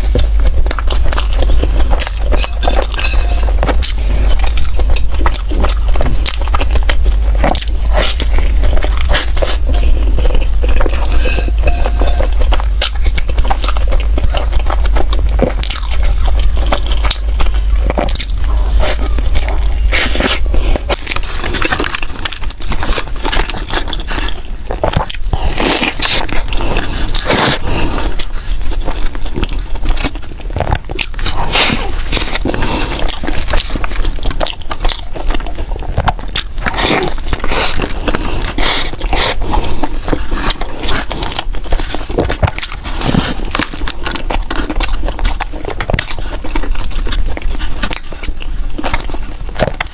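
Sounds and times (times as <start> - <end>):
biting and chewing bread: 0.0 - 49.9
small crackles and clicks: 0.0 - 49.9.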